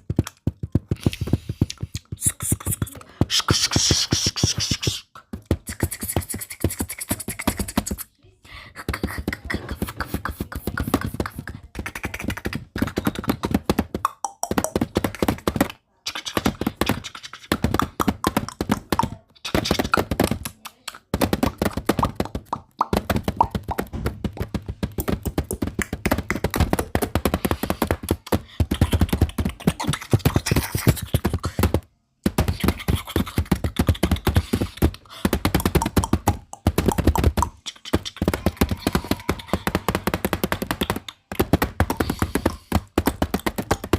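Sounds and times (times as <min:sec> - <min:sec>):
rapid tapping on camera: 0:00.0 - 0:08.1, 0:08.7 - 0:43.9.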